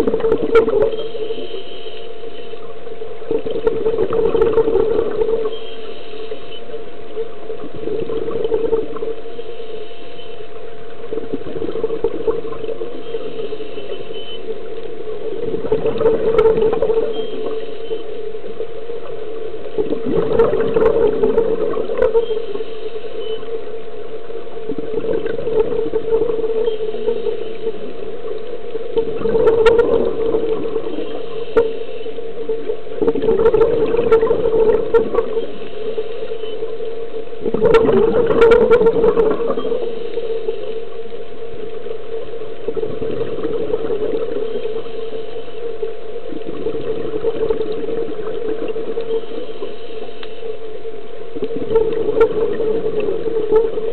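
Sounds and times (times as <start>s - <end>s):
steady hum: 0.0s - 53.9s
underwater bubbles gurgling: 0.0s - 53.9s.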